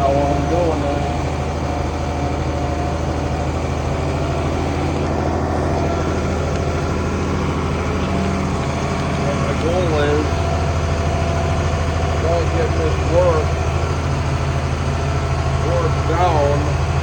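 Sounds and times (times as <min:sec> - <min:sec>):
tractor diesel engine droning: 0:00.0 - 0:17.0.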